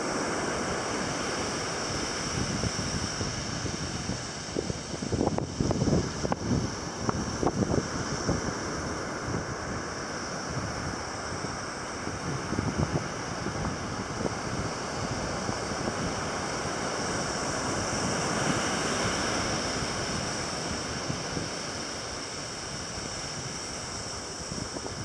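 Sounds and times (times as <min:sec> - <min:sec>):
surf washing on shore: 0:00.0 - 0:25.0
wind buffeting microphone: 0:01.9 - 0:25.0.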